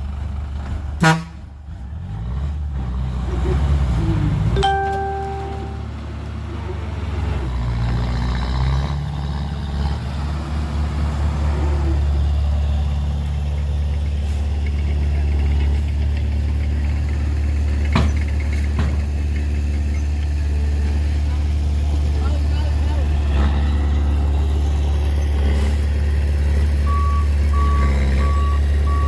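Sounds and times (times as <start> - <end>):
heavy diesel engine running: 2.9 - 29.0.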